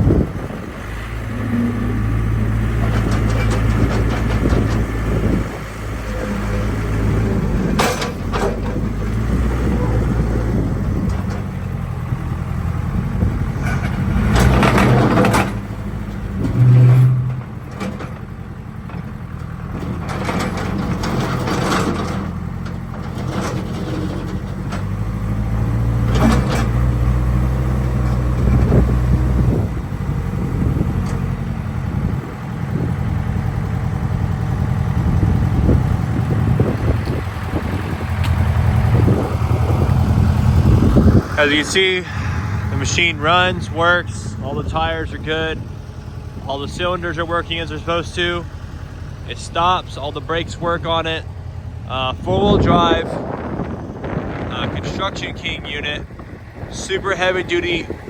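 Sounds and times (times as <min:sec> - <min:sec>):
backhoe diesel engine running: 0:00.0 - 0:58.0.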